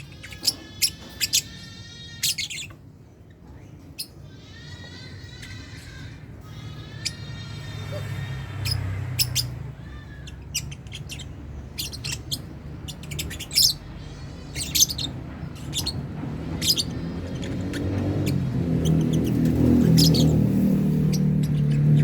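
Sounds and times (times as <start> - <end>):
lovebirds chirping shrilly: 0.0 - 2.9, 3.6 - 22.0.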